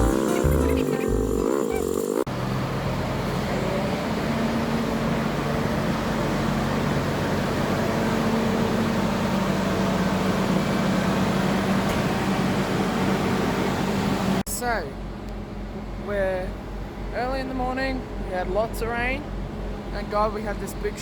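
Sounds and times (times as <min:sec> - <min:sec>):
low engine drone: 0:00.0 - 0:21.0
rushing hum inside vehicle cab: 0:00.0 - 0:21.0.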